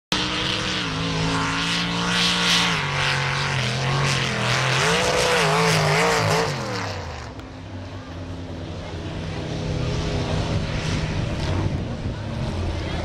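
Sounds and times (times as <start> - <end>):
truck engine revving: 0.1 - 13.0.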